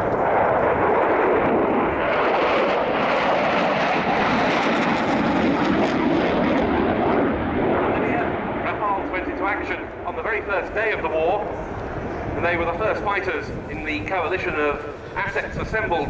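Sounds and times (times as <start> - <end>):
jet engines in afterburner: 0.0 - 16.0.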